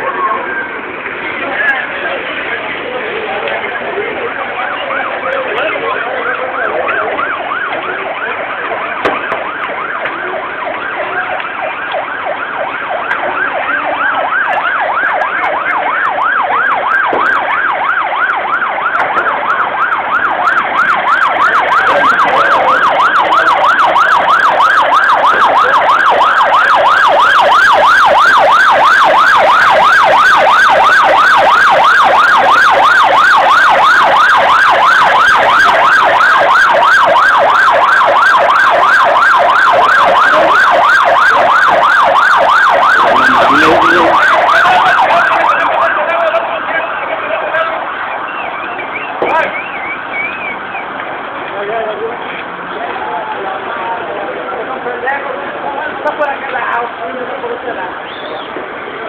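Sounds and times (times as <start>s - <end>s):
emergency siren yelping: 3.7s - 51.6s.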